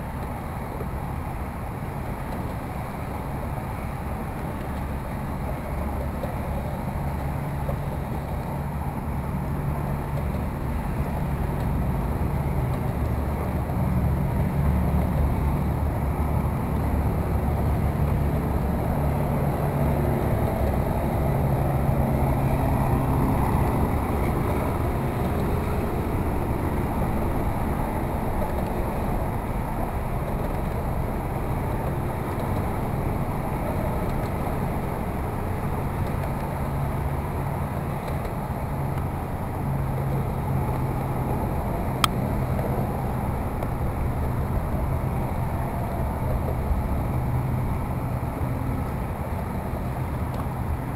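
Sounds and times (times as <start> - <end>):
low rumble of distant engines: 0.0 - 50.9.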